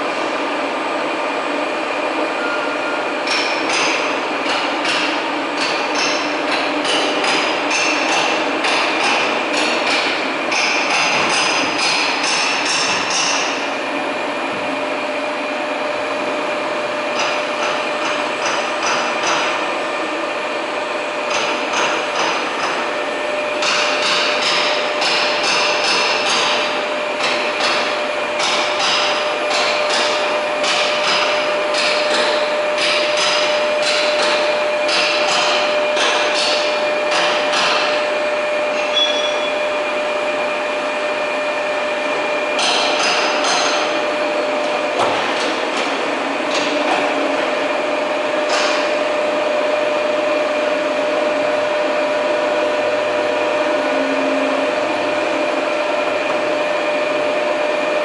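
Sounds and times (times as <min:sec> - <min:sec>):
machinery humming and whining: 0:00.0 - 0:58.0.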